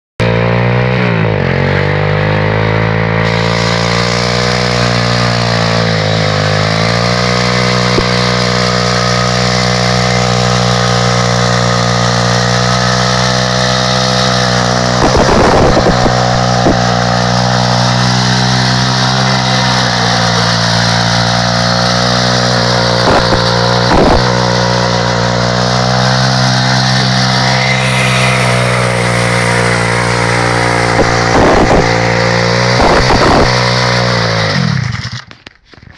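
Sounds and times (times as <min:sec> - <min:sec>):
motorbike engine revving high: 0:00.2 - 0:35.4.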